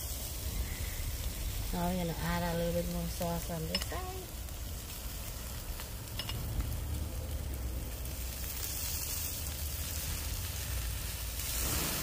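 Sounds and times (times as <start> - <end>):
low rumble: 0.0 - 12.0
ribs sizzling on a grill: 0.0 - 12.0.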